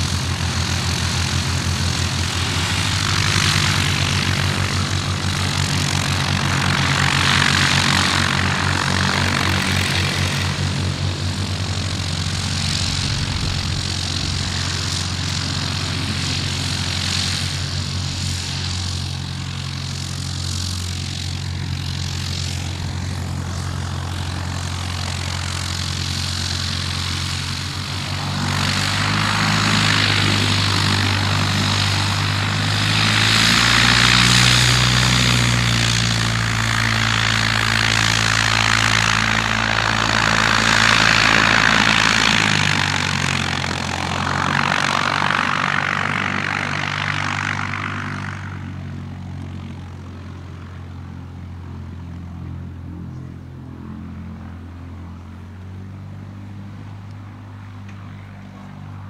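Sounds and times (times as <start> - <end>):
light aircraft engine and propeller: 0.0 - 59.0
second aircraft taxiing: 0.0 - 59.0.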